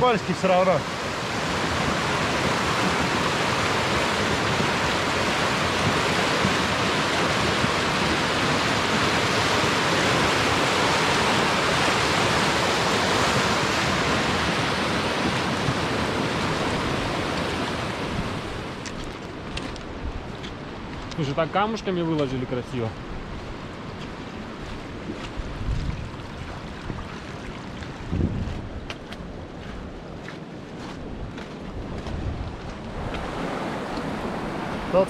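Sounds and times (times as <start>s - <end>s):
river rushing: 0.0s - 30.2s, 31.5s - 35.0s.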